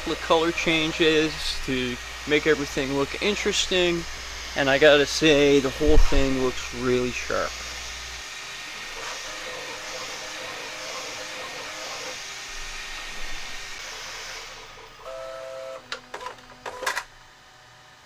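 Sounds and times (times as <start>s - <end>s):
printer hissing rasp: 0.0s - 17.1s
short motor whines: 0.0s - 17.2s.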